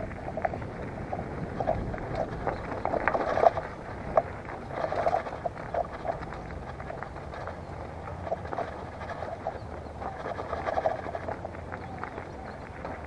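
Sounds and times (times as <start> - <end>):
bike clicking and rattling: 0.0 - 13.0
bike tyres crunching on gravel: 0.0 - 13.0.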